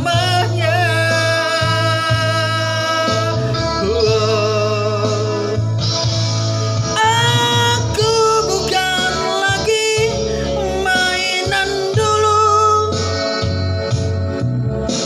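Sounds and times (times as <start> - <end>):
person singing with vibrato: 0.0 - 13.5
backing music: 0.0 - 15.0.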